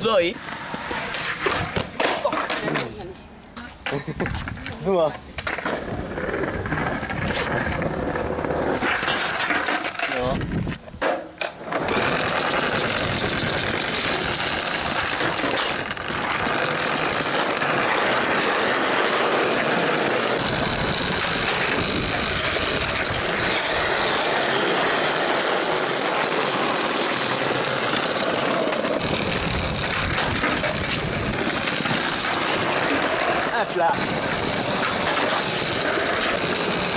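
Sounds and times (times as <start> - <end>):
skateboard wheels rolling on bricks: 0.0 - 36.9.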